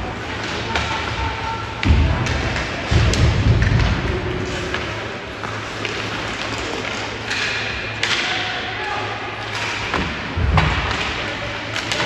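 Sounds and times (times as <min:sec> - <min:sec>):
hockey sticks and puck clacking: 0:00.2 - 0:12.0.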